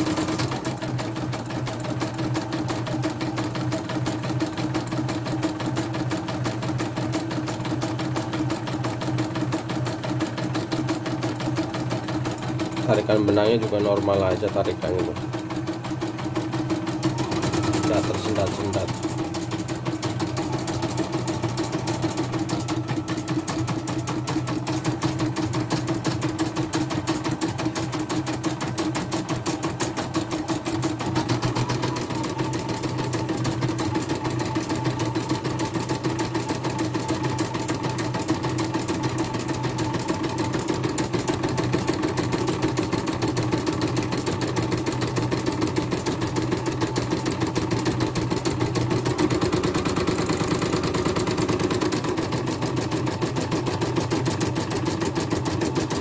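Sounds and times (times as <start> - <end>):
embroidery machine needle clatter: 0.0 - 56.0
motor hum: 0.0 - 56.0.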